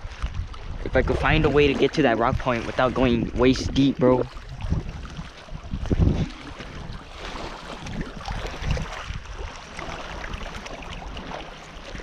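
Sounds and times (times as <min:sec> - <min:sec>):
water sloshing around wading legs: 0:00.0 - 0:12.0
wind rumbling on microphone: 0:00.0 - 0:12.0.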